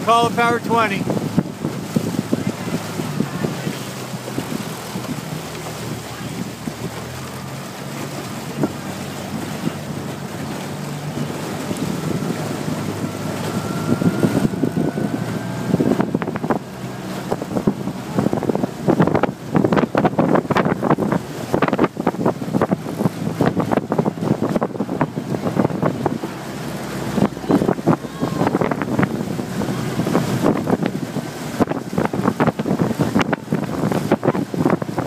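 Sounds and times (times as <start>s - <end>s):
boat motor running: 0.0s - 35.0s
water rushing past hull: 0.0s - 35.0s
wind buffeting microphone: 0.0s - 35.0s.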